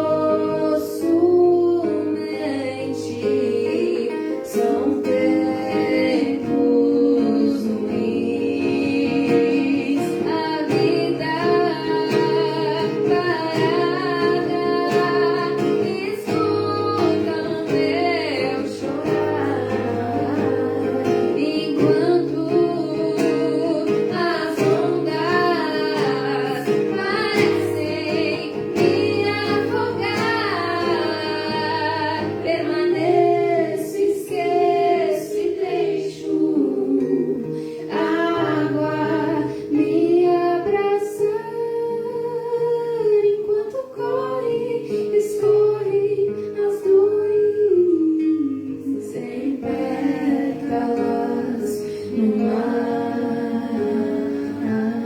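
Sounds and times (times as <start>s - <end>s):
woman singing: 0.0s - 55.0s.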